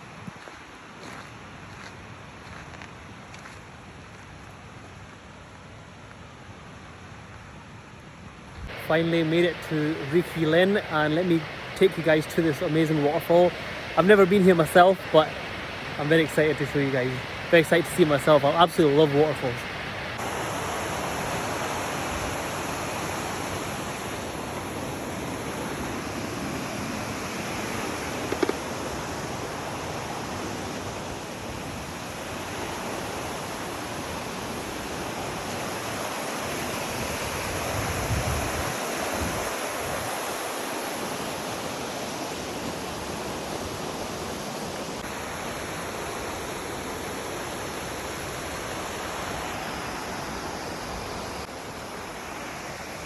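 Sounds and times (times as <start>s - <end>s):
waterfall rushing: 8.7s - 53.0s.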